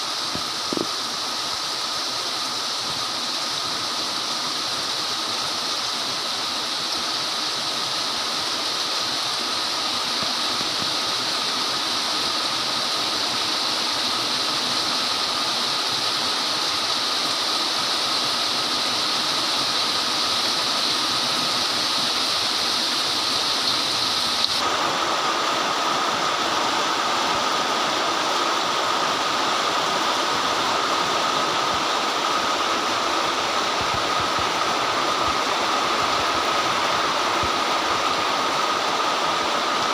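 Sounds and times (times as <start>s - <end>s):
heavy torrential rain: 0.0s - 39.9s.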